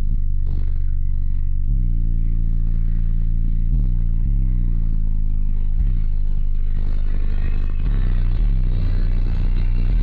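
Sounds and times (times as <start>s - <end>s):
bass-heavy music from subwoofers: 0.0s - 10.0s.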